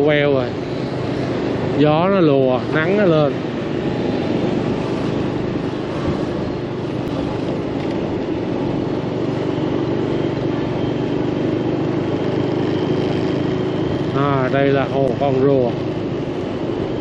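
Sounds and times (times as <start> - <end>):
city street traffic drone: 0.0 - 17.0.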